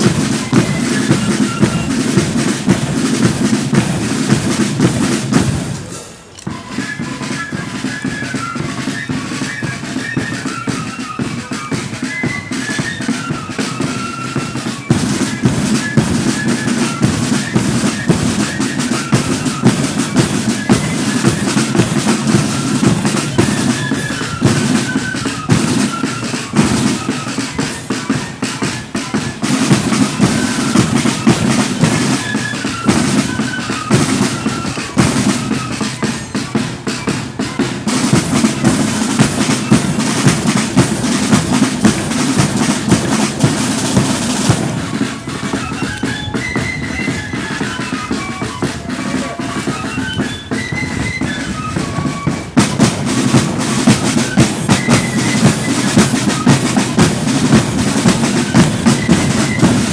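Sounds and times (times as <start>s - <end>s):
flutes playing a tune: 0.0s - 59.9s
side drum rolls: 0.0s - 59.9s.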